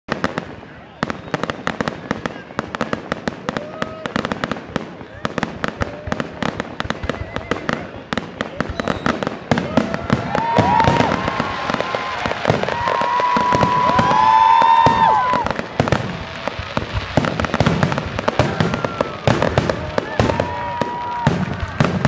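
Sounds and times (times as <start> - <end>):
rapid crackling pops: 1.2 - 22.0.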